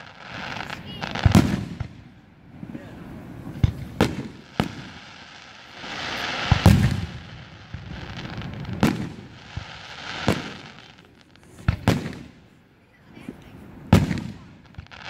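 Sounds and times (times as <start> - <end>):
fireworks booming: 0.0 - 15.0
rising firework hiss: 0.0 - 15.0.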